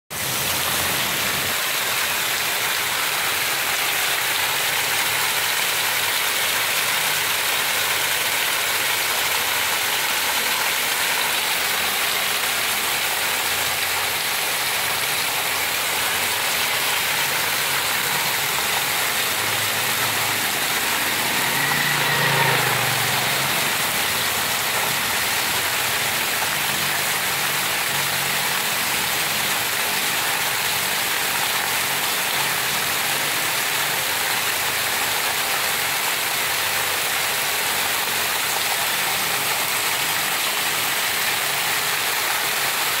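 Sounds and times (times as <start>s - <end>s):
heavy rain: 0.1s - 43.0s.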